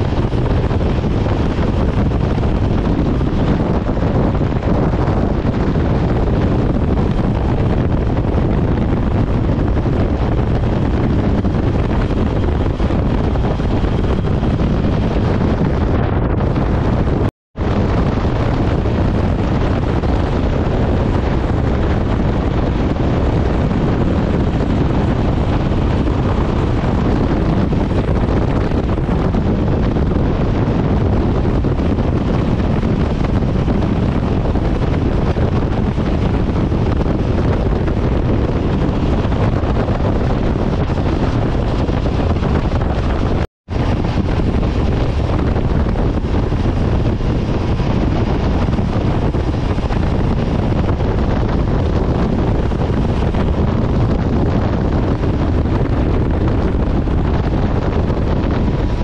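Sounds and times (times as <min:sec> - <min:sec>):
motorcycle road noise: 0:00.0 - 0:59.0
wind on microphone: 0:00.0 - 0:59.0.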